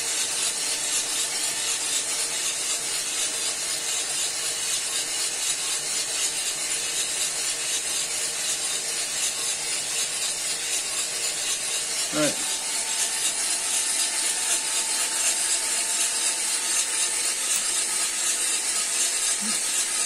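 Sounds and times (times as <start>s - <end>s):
coffee beans tumbling in drum: 0.1s - 20.0s.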